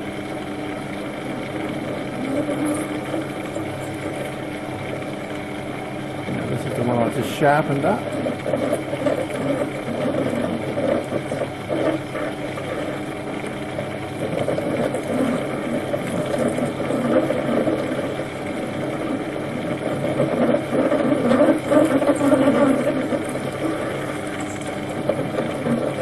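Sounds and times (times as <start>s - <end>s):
metal lathe motor and gear hum: 0.0s - 26.0s.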